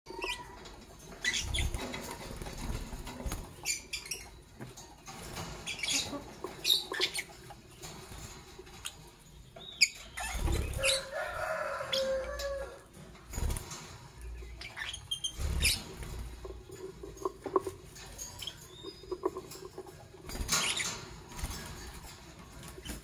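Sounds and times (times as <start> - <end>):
birds chirping: 0.1 - 23.0.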